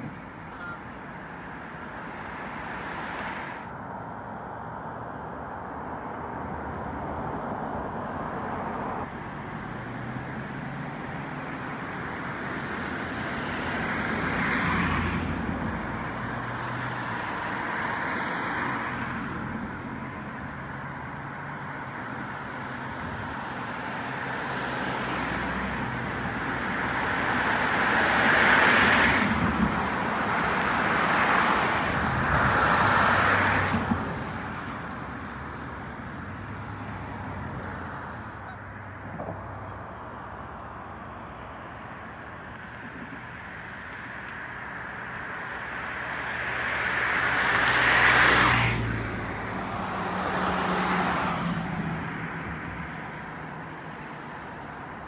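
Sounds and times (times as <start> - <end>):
cars passing: 0.0 - 55.0.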